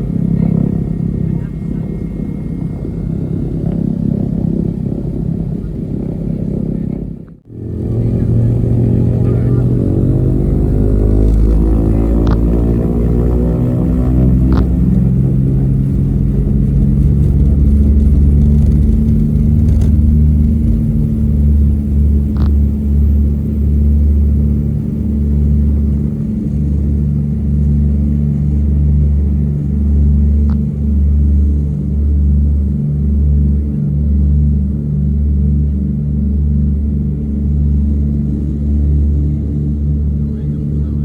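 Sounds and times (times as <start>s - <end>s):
propeller engines droning: 0.0s - 41.0s.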